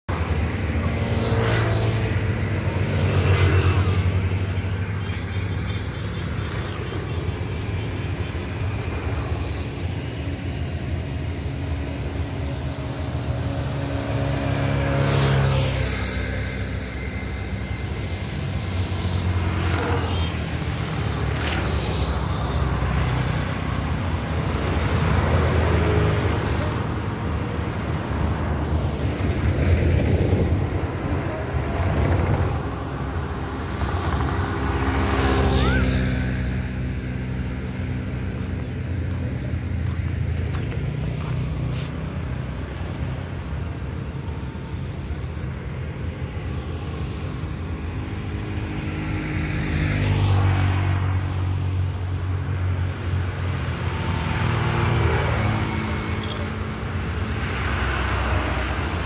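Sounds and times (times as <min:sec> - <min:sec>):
low traffic rumble: 0:00.0 - 0:59.0
motorcycles and cars passing: 0:00.1 - 0:59.0.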